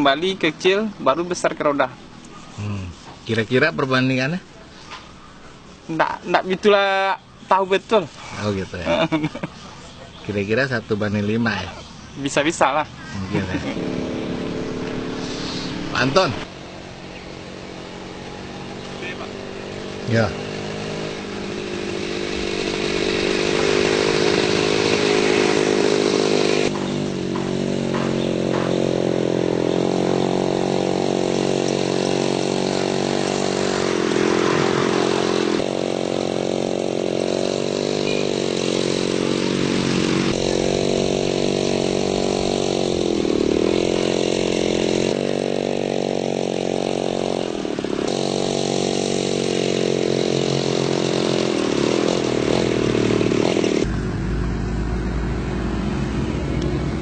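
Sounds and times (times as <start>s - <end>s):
small two-stroke engine revving: 5.9s - 9.5s, 10.3s - 57.0s.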